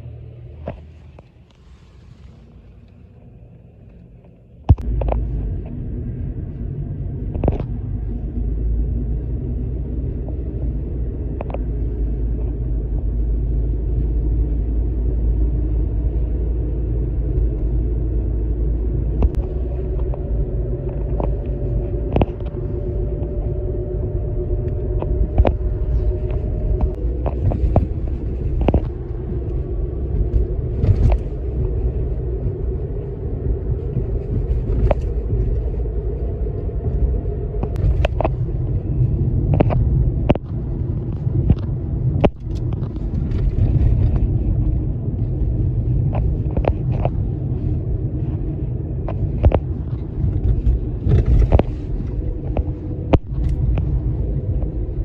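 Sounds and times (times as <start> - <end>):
road vehicle rumble: 0.0 - 55.0.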